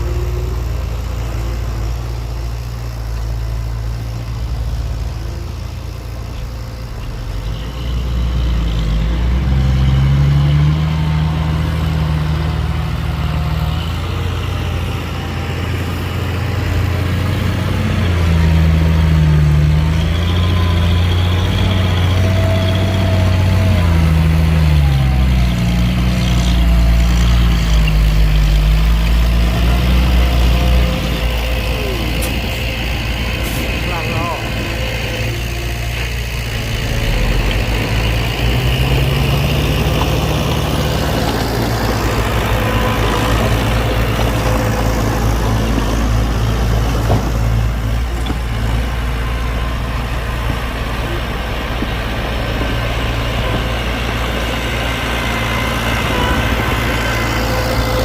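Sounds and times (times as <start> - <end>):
diesel machinery engines revving: 0.0 - 58.0.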